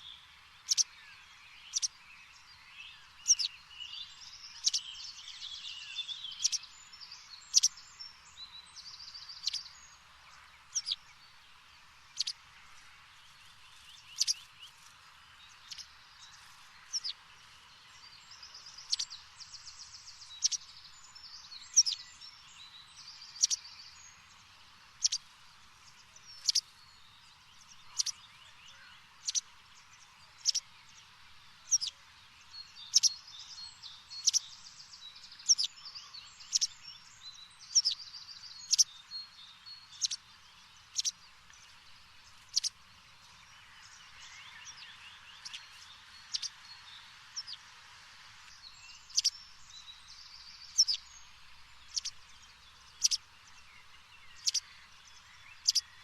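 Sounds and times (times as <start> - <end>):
small birds chirping: 0.0 - 56.0
light hiss: 1.7 - 55.8.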